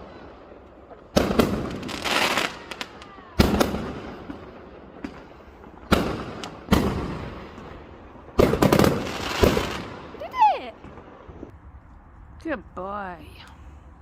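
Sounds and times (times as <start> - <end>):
firework cracks: 0.0 - 11.5
fireworks exploding: 0.0 - 11.5.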